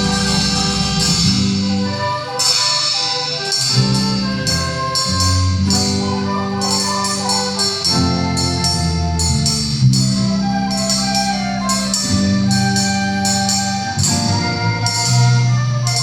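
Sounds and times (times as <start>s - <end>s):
live band playing instrumental: 0.0s - 16.0s.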